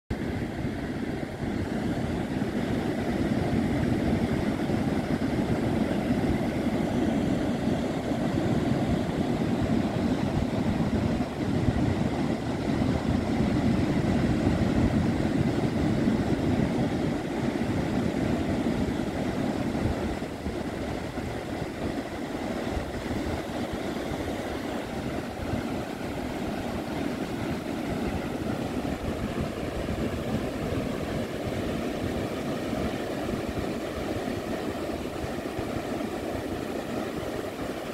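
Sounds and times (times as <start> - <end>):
ocean surf on sandy beach: 0.2 - 37.9.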